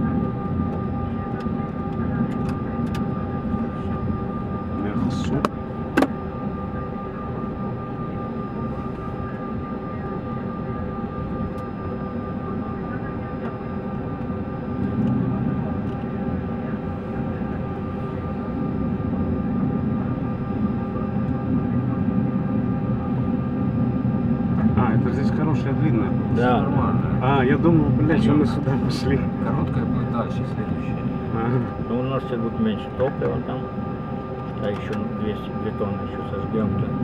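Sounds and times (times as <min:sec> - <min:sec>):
jet engines humming at low power: 0:00.0 - 0:37.0.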